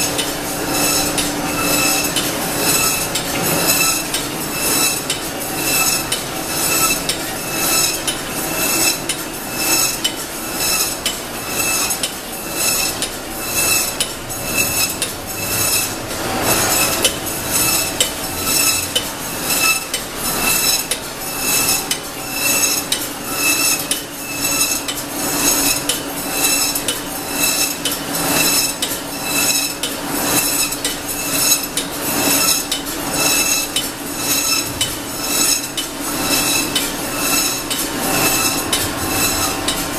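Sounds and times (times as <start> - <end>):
conveyor clattering metallically: 0.0 - 39.9
steady machine hum: 0.0 - 39.9.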